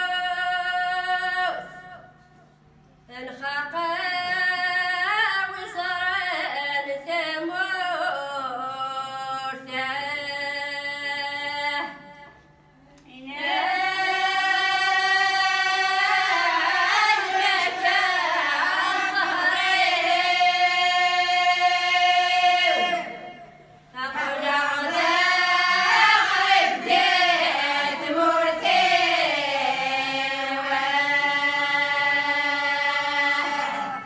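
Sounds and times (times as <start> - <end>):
faint steady hum: 0.0 - 34.0
women singing unaccompanied: 3.1 - 12.3, 13.0 - 34.0.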